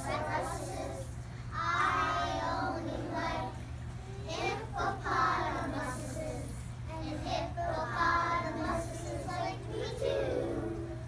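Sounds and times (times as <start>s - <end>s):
children singing together: 0.0s - 11.0s
steady low hum: 0.0s - 11.0s.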